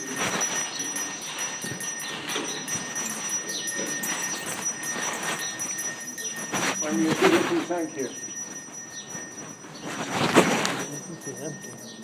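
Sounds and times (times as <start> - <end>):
distant indistinct voices: 0.0 - 12.0.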